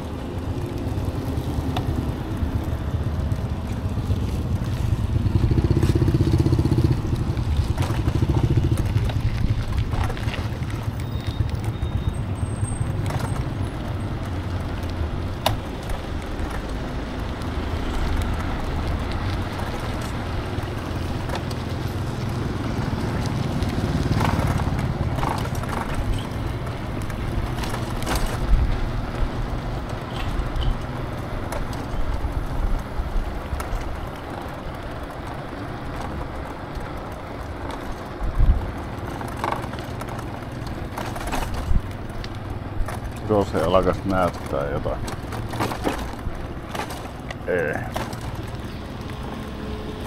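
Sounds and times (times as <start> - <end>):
wind and road noise: 0.0 - 50.0
scooter knocks and rattles: 5.3 - 17.0, 17.9 - 49.6.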